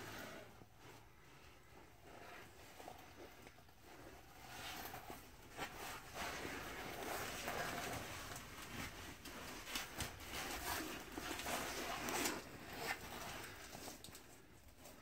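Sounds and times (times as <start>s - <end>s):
clothing rustling and scraping: 0.0s - 15.0s.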